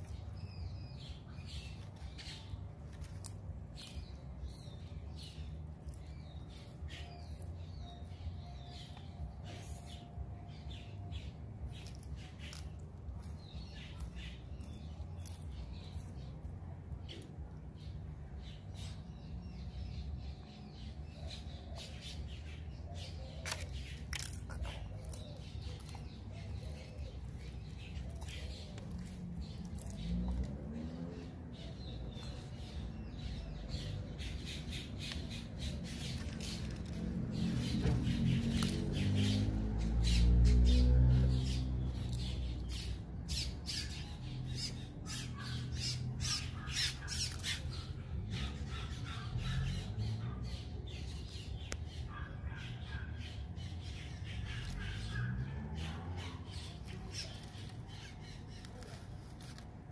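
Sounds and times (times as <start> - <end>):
tortoise crunching vegetables: 0.0 - 59.9.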